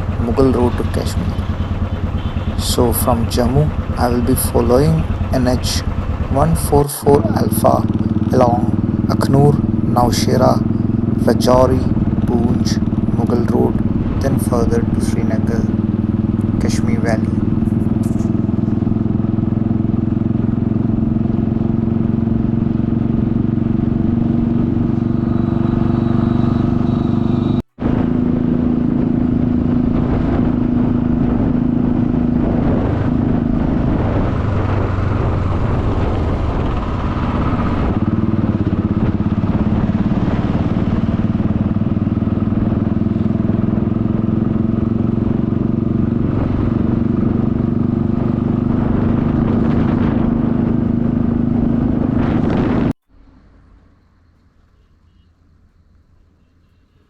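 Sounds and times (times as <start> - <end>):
motorcycle engine running: 0.0 - 53.0
road noise: 0.0 - 57.0
wind: 0.0 - 57.0.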